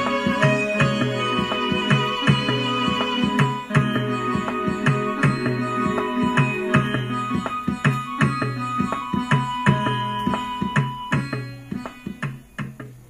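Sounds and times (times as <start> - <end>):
drum strokes: 0.0 - 13.0
steady held tones: 0.0 - 13.0.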